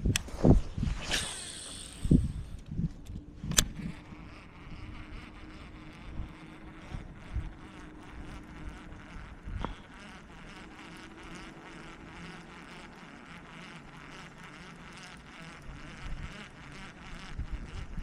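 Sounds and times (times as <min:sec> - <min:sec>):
faint drone: 0:00.0 - 0:18.0
insects buzzing: 0:00.0 - 0:18.0.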